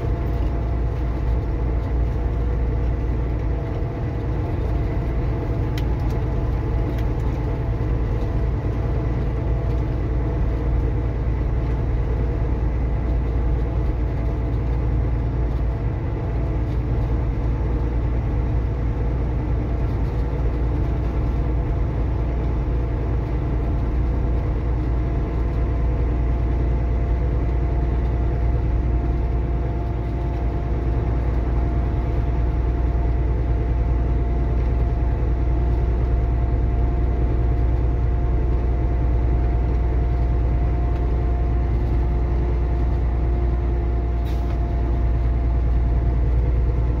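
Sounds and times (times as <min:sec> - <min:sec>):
truck diesel engine droning: 0:00.0 - 0:47.0.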